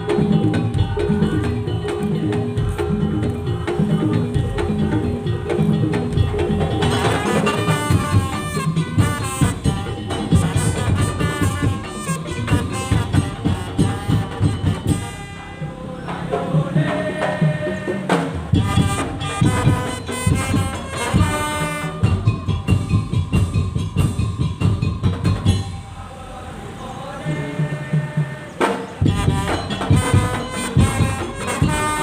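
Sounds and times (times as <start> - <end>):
fast dense drumming: 0.0 - 25.7, 27.7 - 32.0
ensemble melody: 0.0 - 32.0.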